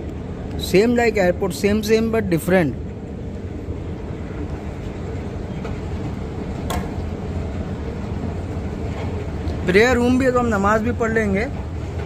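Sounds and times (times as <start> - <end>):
low rumble of station hall: 0.0 - 12.0.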